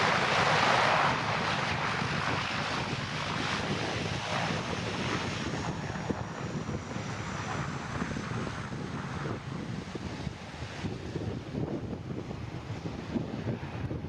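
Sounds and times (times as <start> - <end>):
distant aircraft: 0.0 - 14.0
wind buffeting microphone: 0.0 - 14.0.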